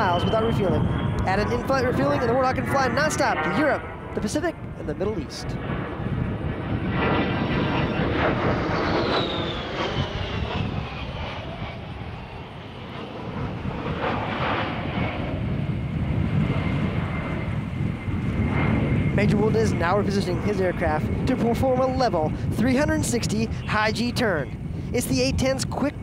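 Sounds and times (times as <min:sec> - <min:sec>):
jet engines flying past: 0:00.0 - 0:26.0.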